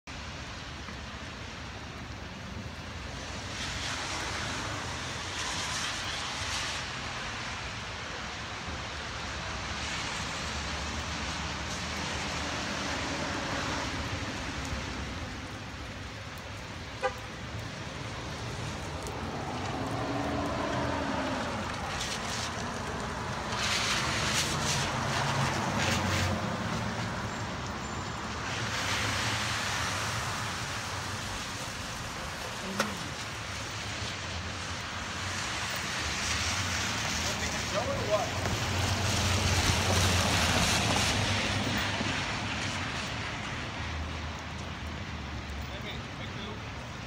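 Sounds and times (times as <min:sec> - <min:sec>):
wet road noise: 0:00.0 - 0:47.0.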